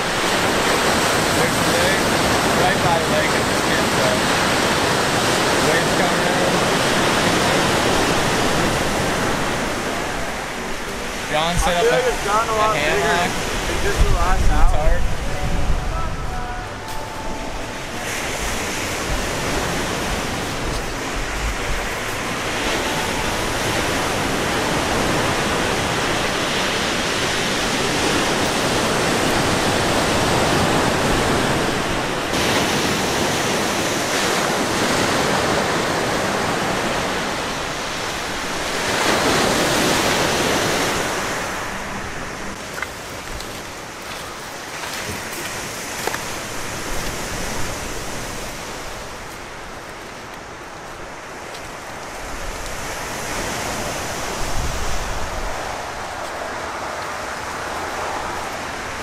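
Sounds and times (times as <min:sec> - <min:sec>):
surf breaking on shore: 0:00.0 - 0:59.0.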